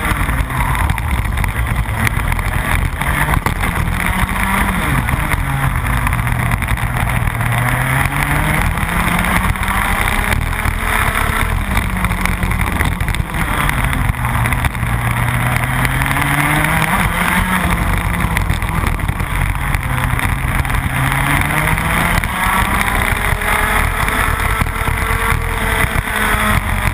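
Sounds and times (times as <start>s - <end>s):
kart engine revving: 0.0s - 26.9s.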